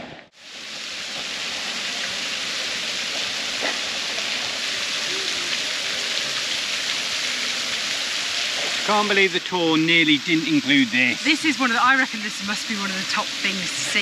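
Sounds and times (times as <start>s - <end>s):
fountain water splashing into basin: 0.3s - 14.0s.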